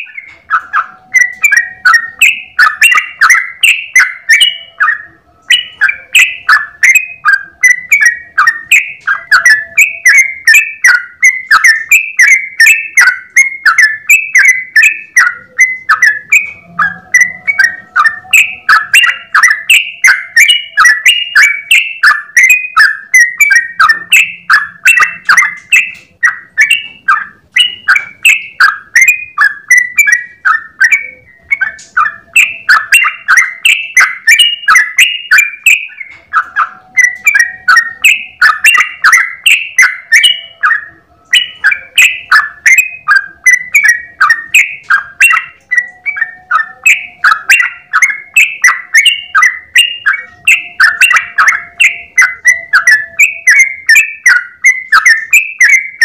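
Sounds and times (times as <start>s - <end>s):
bird chattering: 0.0s - 56.0s.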